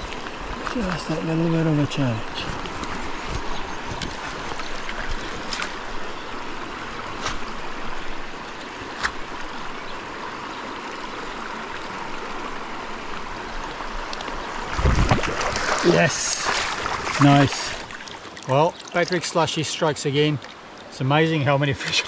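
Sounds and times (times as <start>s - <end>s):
shallow river water flowing: 0.0s - 22.0s.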